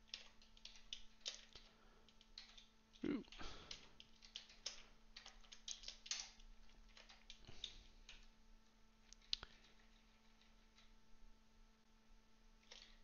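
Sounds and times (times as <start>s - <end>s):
computer keyboard typing: 0.0s - 8.3s, 9.0s - 10.9s, 12.6s - 13.0s.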